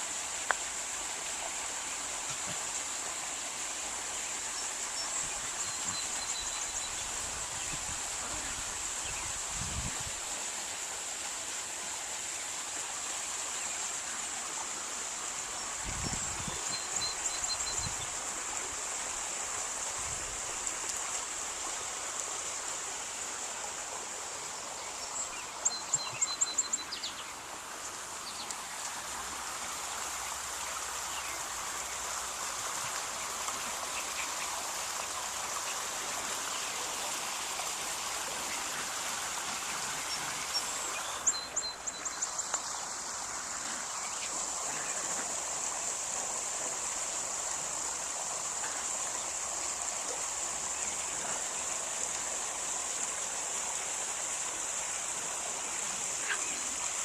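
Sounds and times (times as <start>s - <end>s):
constant high hiss: 0.0s - 57.0s.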